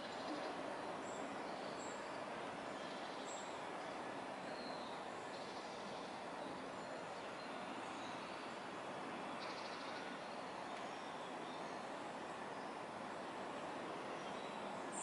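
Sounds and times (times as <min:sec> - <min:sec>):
outdoor hiss and hum: 0:00.0 - 0:15.0.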